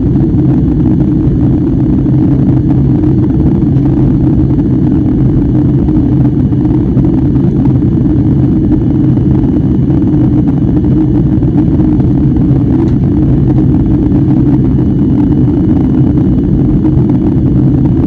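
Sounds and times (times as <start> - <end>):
jet engine cabin rumble: 0.0 - 18.0.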